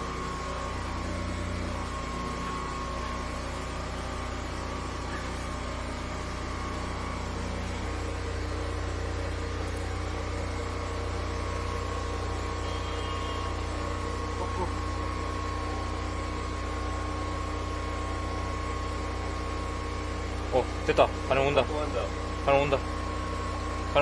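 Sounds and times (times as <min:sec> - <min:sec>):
sewer jetter machine drone: 0:00.0 - 0:24.0.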